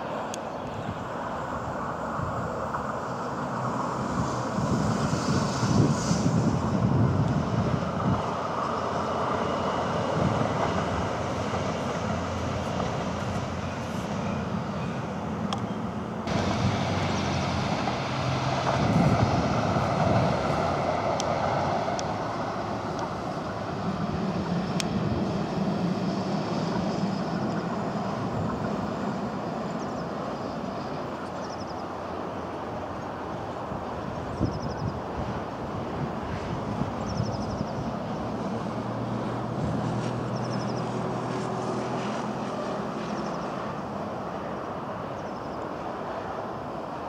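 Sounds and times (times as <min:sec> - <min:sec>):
tram wheels rumbling on rail: 0:00.0 - 0:47.0.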